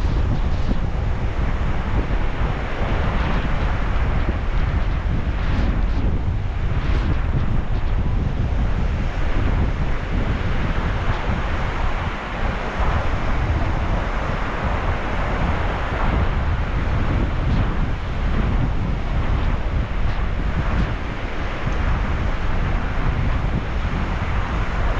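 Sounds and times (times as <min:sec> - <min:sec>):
heavy low rumble: 0:00.0 - 0:24.9
wind buffeting microphone: 0:00.0 - 0:24.9.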